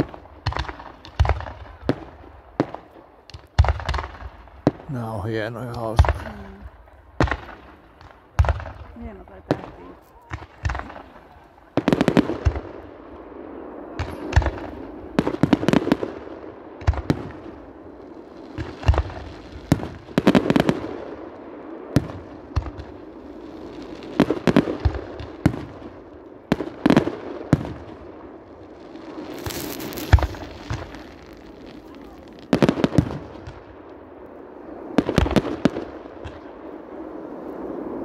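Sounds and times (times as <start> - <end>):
fireworks bangs: 0.0 - 38.0.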